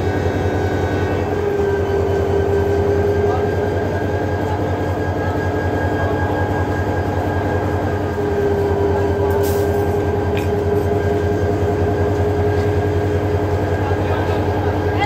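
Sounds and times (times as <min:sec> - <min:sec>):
diesel locomotive engine idling: 0:00.0 - 0:15.0
high steady tone: 0:00.0 - 0:15.0.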